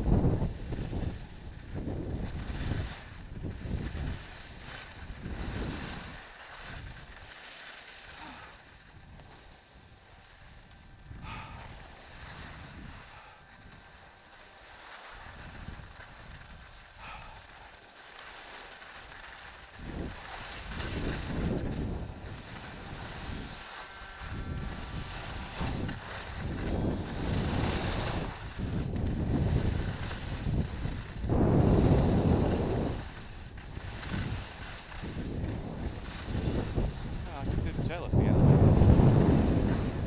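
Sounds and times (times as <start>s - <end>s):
wind buffeting microphone: 0.0s - 7.2s, 8.9s - 14.0s, 19.7s - 40.0s
skis scraping over snow: 0.0s - 40.0s.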